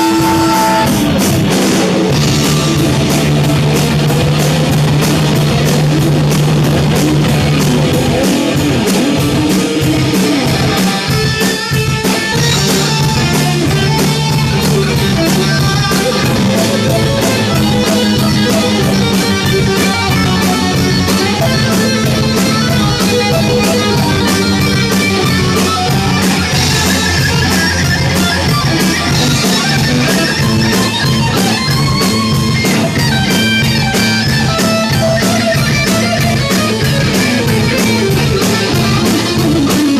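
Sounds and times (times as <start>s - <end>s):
bass: 0.0s - 39.9s
drum beat: 0.0s - 39.9s
electric guitar: 0.0s - 39.9s.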